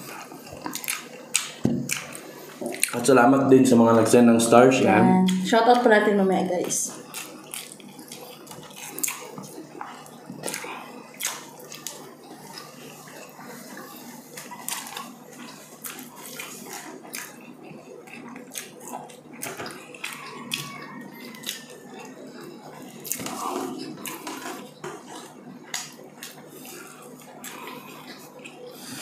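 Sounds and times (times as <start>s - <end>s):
people chewing food: 0.0s - 29.0s.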